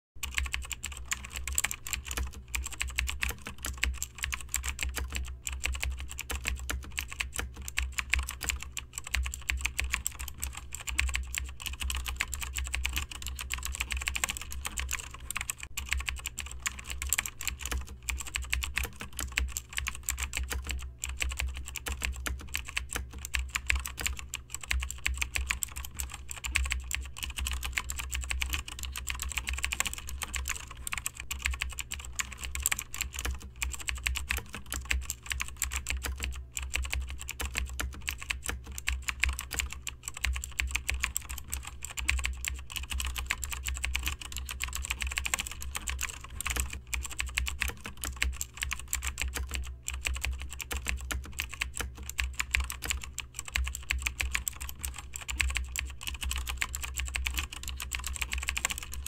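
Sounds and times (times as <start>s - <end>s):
mechanical keyboard typing: 0.2s - 59.0s
steady low hum: 0.2s - 59.0s.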